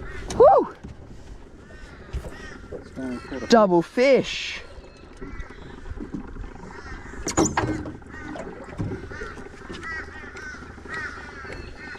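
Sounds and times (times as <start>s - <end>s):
bird calling: 1.5s - 11.9s.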